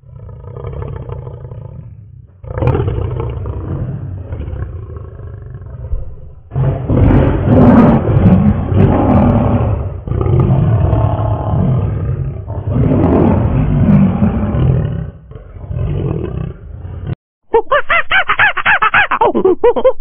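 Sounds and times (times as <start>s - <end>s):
lion roaring: 0.0s - 17.2s.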